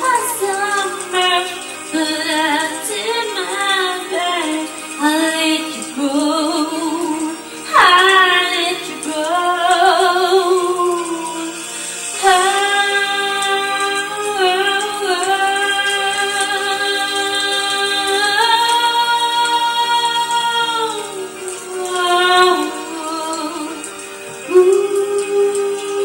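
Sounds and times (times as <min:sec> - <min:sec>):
woman singing: 0:00.0 - 0:26.0.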